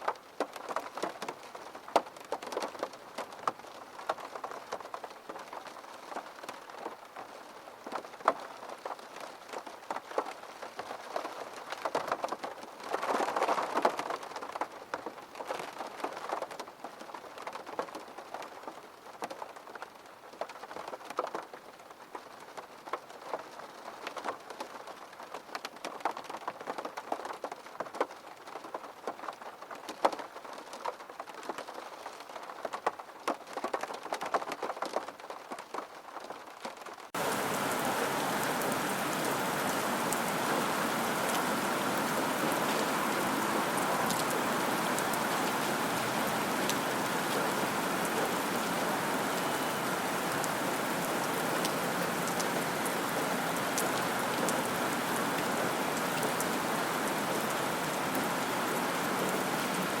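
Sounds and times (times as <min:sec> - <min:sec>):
dense steady rainfall: 0:00.0 - 1:00.0
raindrops falling on a surface: 0:00.0 - 1:00.0.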